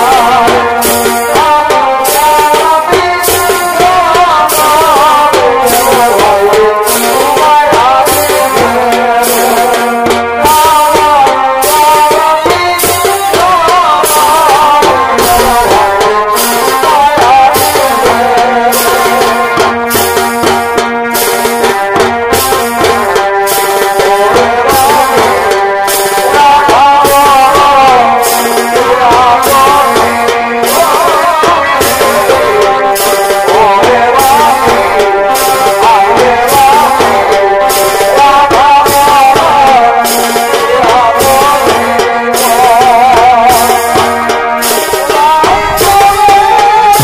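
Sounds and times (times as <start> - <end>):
reed pipe melody: 0.0 - 47.0
steady drum strokes: 0.0 - 47.0.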